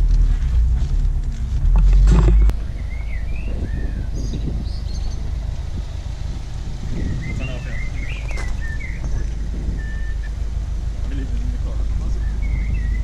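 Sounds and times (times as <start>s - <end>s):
low rumble: 0.0s - 13.0s
small birds twittering: 2.5s - 13.0s.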